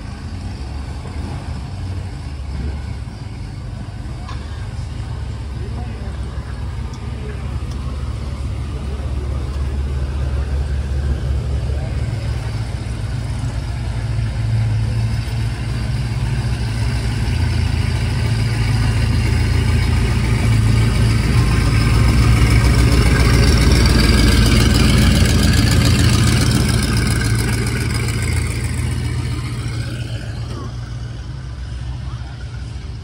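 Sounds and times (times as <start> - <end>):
car engine exhaust rumble: 0.0 - 33.0.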